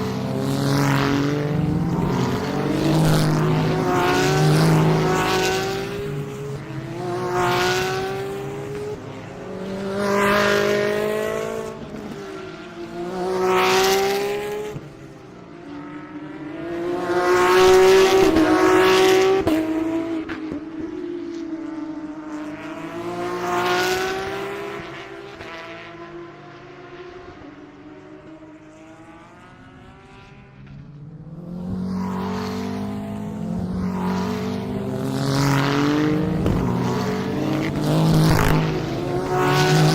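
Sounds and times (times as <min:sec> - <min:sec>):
race cars passing at speed: 0:00.0 - 0:39.9.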